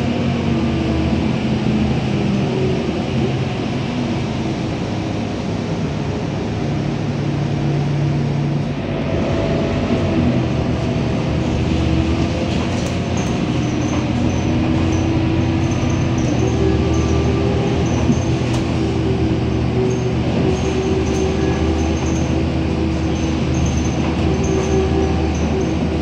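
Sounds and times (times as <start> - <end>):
bus engine rumble from inside: 0.0 - 26.0.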